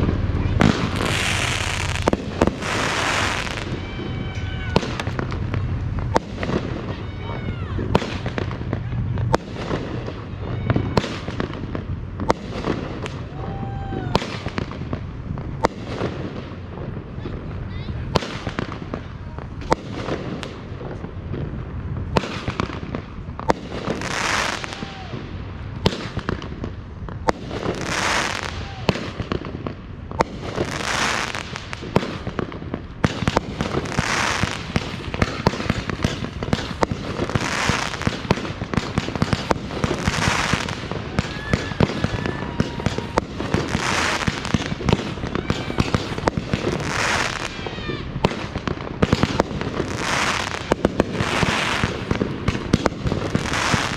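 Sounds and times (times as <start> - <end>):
fireworks crackling and banging: 0.0 - 53.9
fireworks hissing: 0.0 - 53.9.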